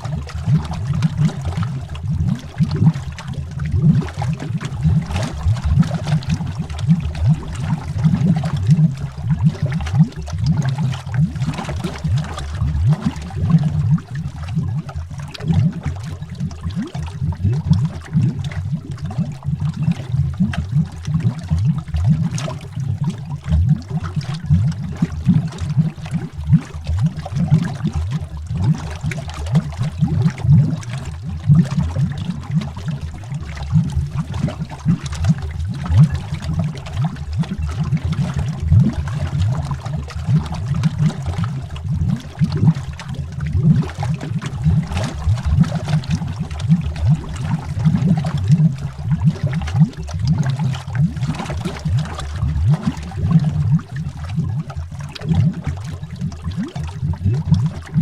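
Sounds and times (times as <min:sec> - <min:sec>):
underwater bubbling: 0:00.0 - 0:58.0.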